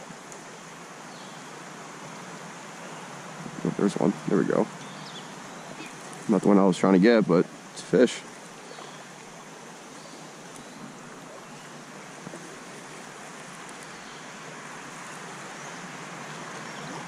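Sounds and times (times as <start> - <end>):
flowing creek water: 0.0 - 17.0.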